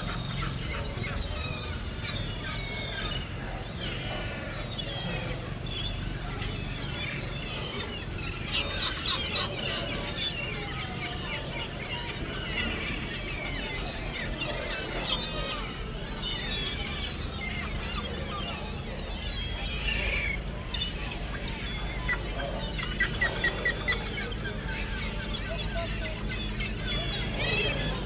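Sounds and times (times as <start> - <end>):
gulls calling: 0.0 - 28.0.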